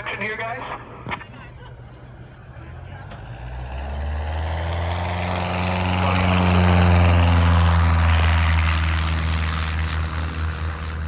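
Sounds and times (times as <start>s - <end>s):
propeller plane flying by: 0.0s - 11.0s.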